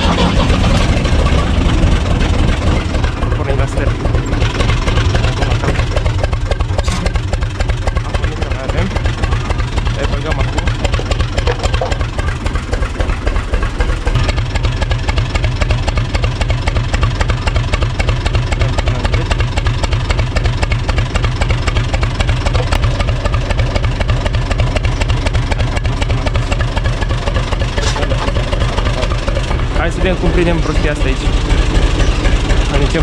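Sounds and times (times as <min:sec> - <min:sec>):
tractor diesel engine idling: 0:00.0 - 0:33.0.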